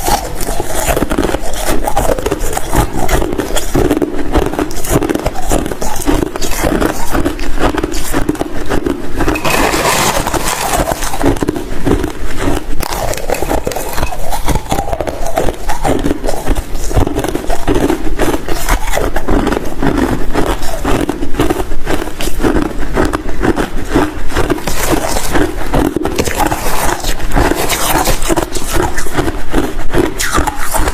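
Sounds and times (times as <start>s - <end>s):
ice being chewed: 0.0s - 30.9s.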